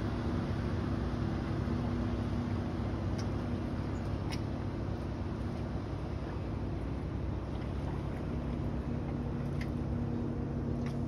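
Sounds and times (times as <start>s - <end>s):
distant boat engine drone: 0.0s - 11.0s.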